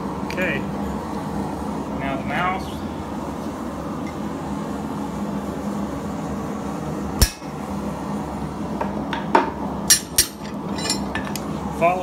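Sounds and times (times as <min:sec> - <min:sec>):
steady background roar: 0:00.0 - 0:12.0.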